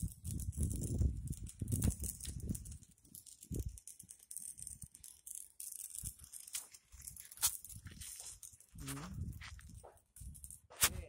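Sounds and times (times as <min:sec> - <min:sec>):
arc welding crackling: 0:00.0 - 0:11.0.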